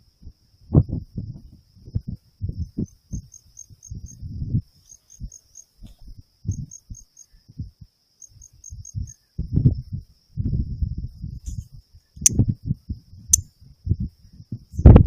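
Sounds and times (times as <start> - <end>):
wind buffeting microphone: 0.0 - 7.9, 8.6 - 15.0
crickets chirping: 0.0 - 15.0.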